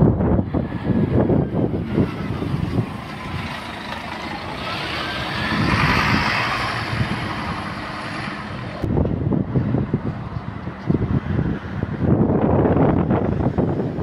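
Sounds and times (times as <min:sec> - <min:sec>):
wind gusts on microphone: 0:00.0 - 0:14.0.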